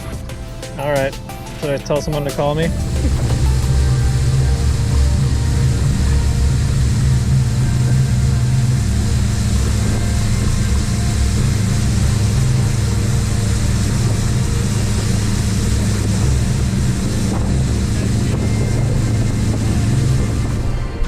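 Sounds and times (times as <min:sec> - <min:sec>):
boat motor droning: 0:00.0 - 0:21.0.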